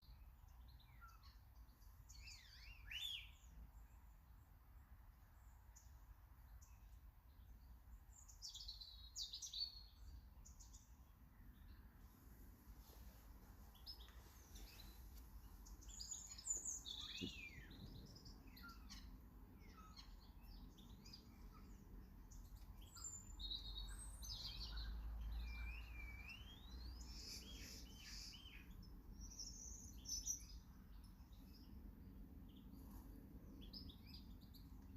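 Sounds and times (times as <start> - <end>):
songbirds chirping and whistling: 0.0 - 34.9.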